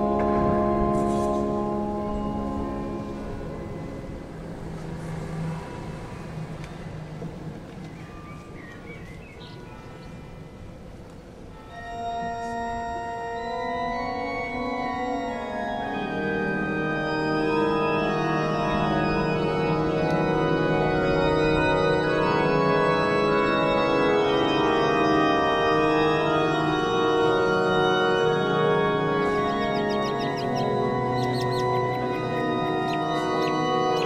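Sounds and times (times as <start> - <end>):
church organ chords: 0.0 - 5.2, 11.4 - 34.0.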